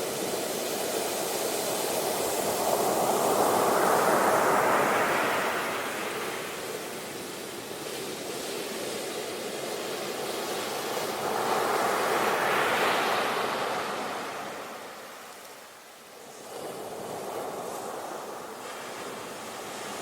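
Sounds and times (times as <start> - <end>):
sea waves breaking on shore: 0.1 - 20.0.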